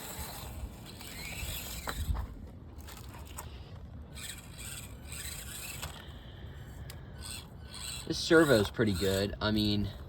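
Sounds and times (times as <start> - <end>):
small motor and gears whirring: 0.0 - 10.0
tyres scraping over rock: 0.0 - 10.0.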